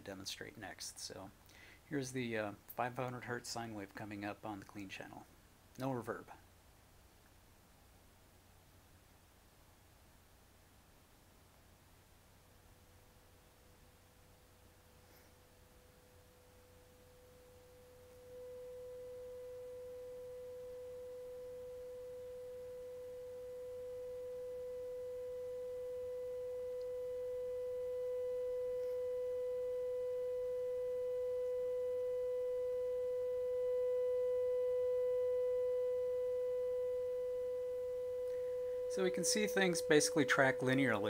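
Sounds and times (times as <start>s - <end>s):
sine-wave test tone through amplifier: 0.0s - 41.0s.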